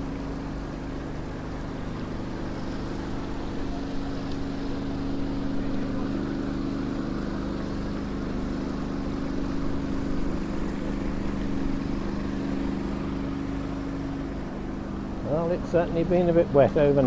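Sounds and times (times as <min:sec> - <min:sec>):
broad rushing noise: 0:00.0 - 0:17.0
engine droning: 0:00.0 - 0:17.0.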